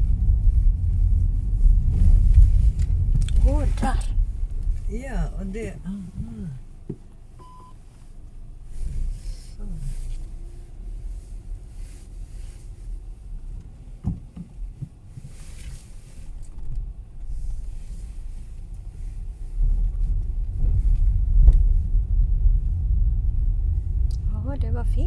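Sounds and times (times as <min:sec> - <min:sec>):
car cabin road rumble: 0:00.0 - 0:25.0.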